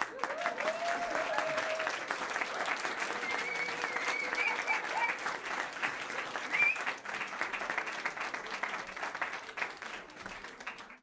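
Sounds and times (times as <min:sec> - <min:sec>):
crowd cheering: 0:00.0 - 0:11.0
crowd clapping: 0:00.0 - 0:11.0.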